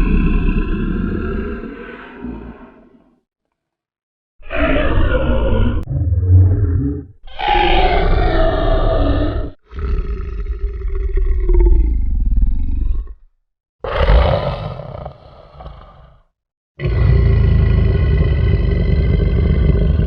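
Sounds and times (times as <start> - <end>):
animal-like roars or growls: 0.0 - 3.2, 4.4 - 20.0.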